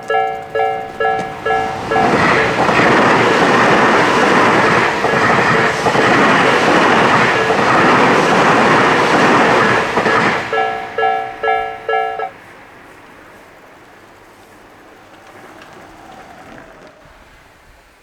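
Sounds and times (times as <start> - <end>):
level crossing warning bells: 0.0 - 15.7
train wheels clattering over rails: 0.0 - 18.0.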